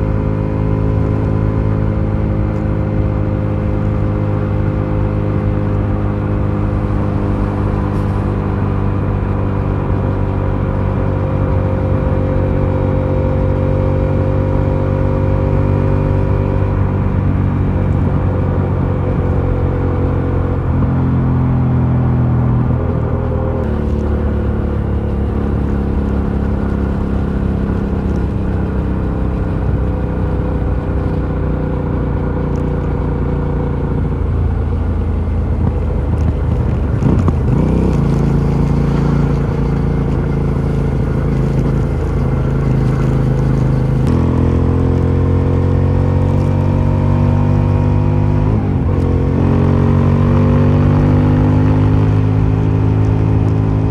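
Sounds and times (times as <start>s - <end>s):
motorcycle engine under load: 0.0s - 53.9s.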